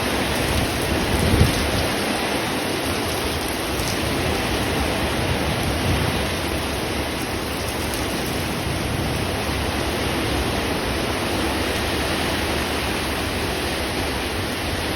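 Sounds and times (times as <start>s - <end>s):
heavy rain downpour: 0.0s - 14.9s.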